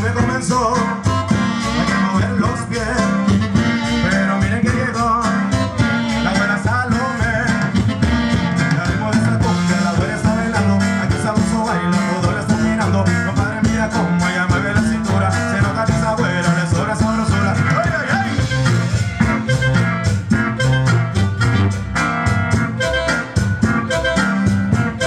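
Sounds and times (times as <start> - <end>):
bass line: 0.0 - 25.0
drums: 0.0 - 25.0
guitar: 0.0 - 25.0.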